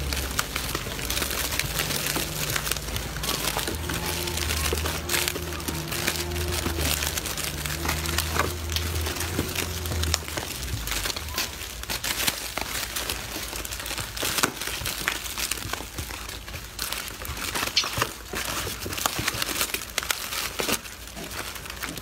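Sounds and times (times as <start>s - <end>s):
plastic wrappers crackling: 0.0s - 22.0s.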